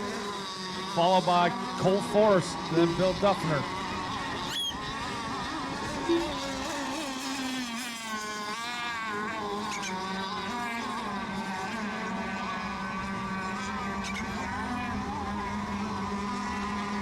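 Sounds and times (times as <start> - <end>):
rc boat motors buzzing: 0.0 - 17.0.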